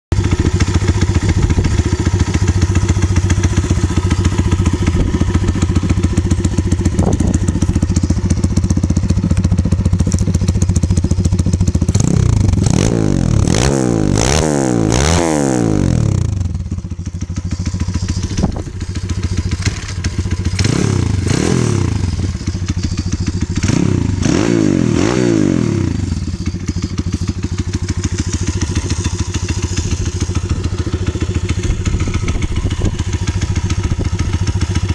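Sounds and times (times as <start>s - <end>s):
motorbike engine idling and revving: 0.1s - 34.9s.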